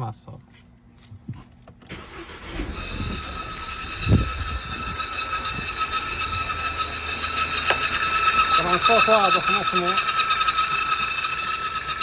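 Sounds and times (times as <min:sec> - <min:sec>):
car engine starting and running: 0:01.9 - 0:12.0
high-pitched whine: 0:02.1 - 0:12.0.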